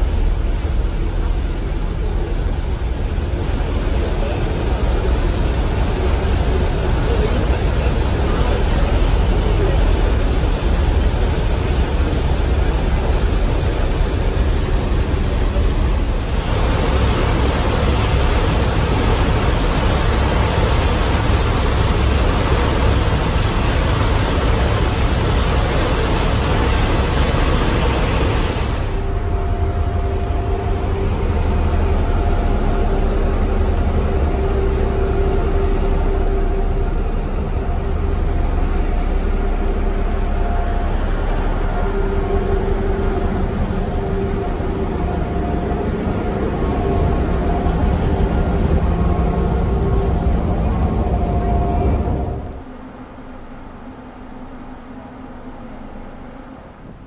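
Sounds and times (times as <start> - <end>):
ferry engine rumble: 0.0 - 57.0
humming tones: 0.0 - 57.0
wind and water hiss: 0.0 - 57.0.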